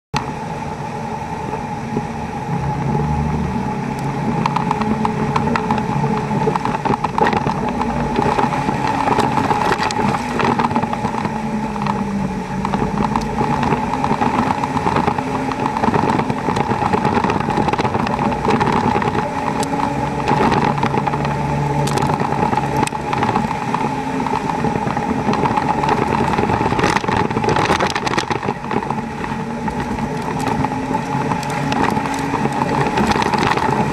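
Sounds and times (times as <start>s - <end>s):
steady high whine: 0.2s - 33.9s
diesel truck engine revving: 2.1s - 33.9s
rocks and gravel knocking: 4.3s - 33.9s.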